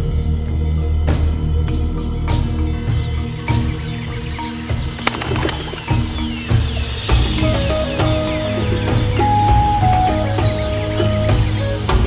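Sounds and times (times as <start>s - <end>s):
music with drum hits and bass: 0.0s - 12.0s.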